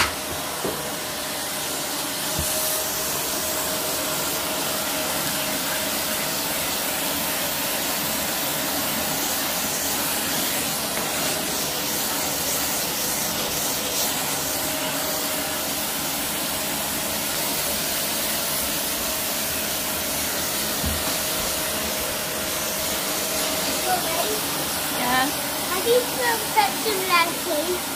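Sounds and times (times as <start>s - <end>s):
vacuum cleaner on carpet: 0.0s - 27.9s.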